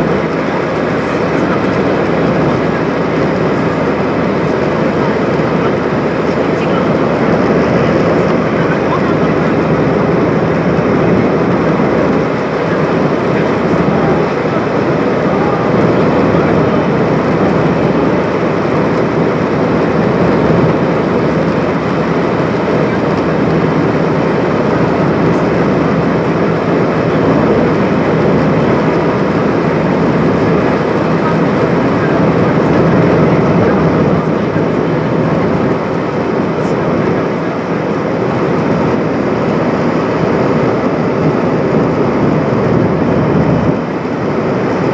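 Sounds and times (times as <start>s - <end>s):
airliner cabin engine noise: 0.0s - 44.9s.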